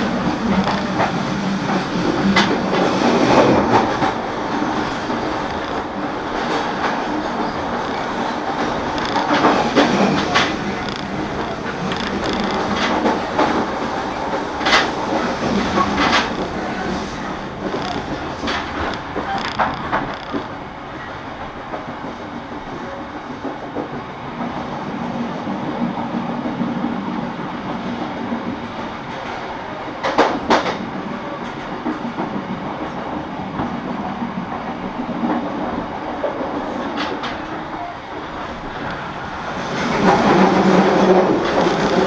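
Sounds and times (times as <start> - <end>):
train wheels rolling on rail: 0.0 - 42.0.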